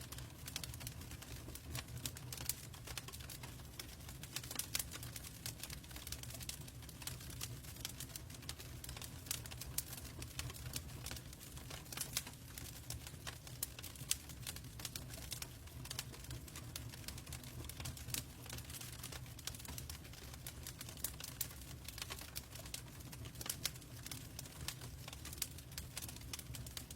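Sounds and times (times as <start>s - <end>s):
log fire crackling: 0.1s - 26.9s.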